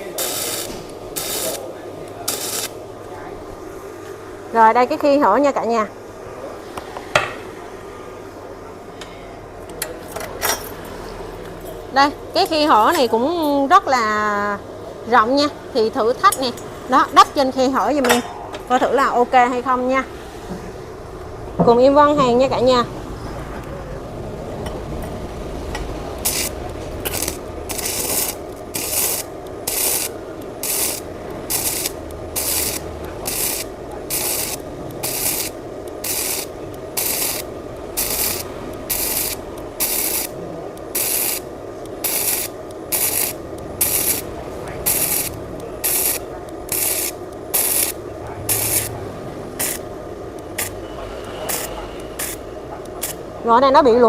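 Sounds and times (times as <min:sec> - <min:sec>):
welder arc crackling: 0:00.0 - 0:05.8, 0:11.3 - 0:20.2, 0:23.6 - 0:54.0
welding machine hum: 0:00.0 - 0:05.9, 0:09.6 - 0:54.0.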